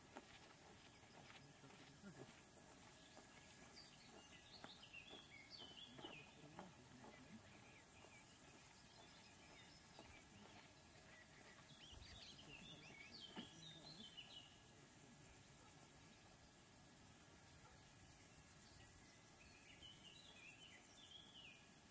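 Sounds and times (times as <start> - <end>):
faint bird chirping: 0.0 - 21.9.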